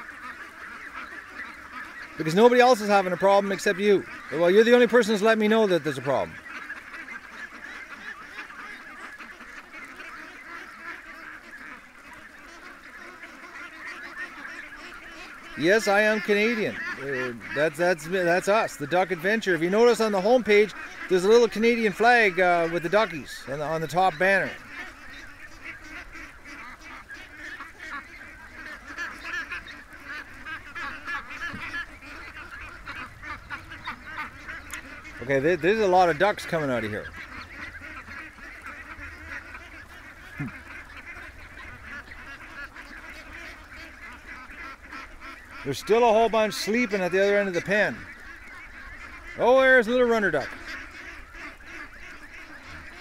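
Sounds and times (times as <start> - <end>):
ducks calling: 0.0 - 53.0.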